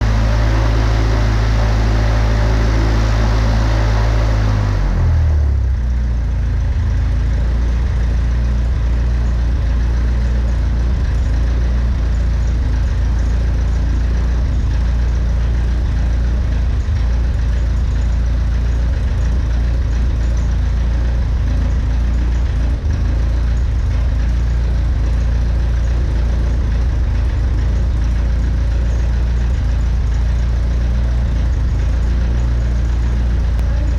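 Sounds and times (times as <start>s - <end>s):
piston engine running: 0.0s - 33.9s.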